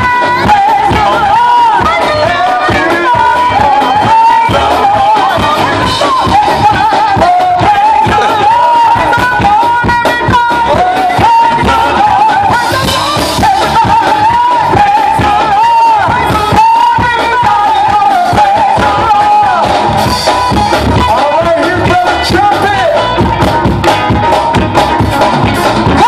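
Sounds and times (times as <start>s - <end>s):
drums steady beat: 0.0s - 26.0s
lead voice singing: 0.0s - 26.0s.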